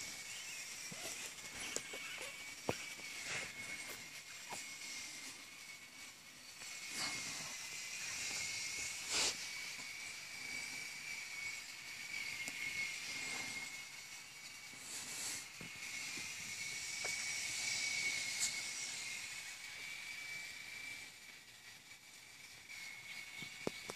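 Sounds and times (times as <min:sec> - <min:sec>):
faint high whine: 0:00.0 - 0:23.9
steady hiss: 0:00.0 - 0:23.9.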